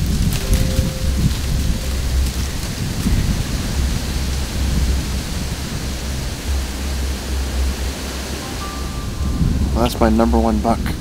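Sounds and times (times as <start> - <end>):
wind buffeting a microphone: 0.0 - 11.0.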